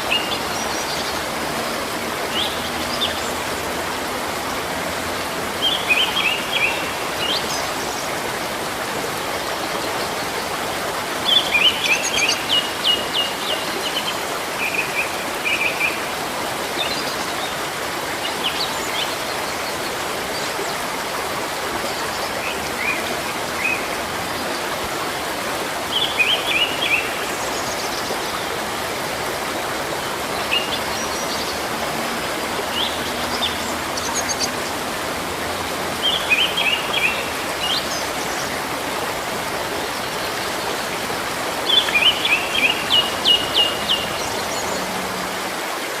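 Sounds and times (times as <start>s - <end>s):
flowing water rushing: 0.0s - 46.0s.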